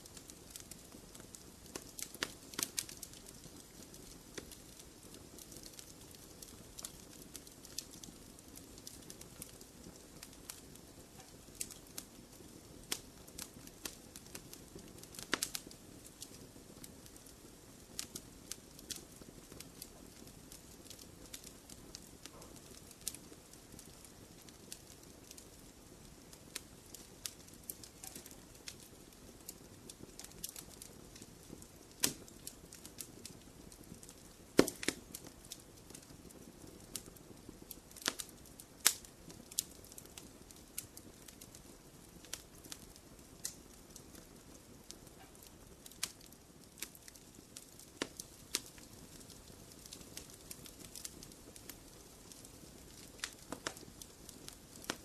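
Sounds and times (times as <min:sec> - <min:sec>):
fire pops and snaps: 0:00.0 - 0:55.0
wood fire crackling: 0:00.0 - 0:55.0.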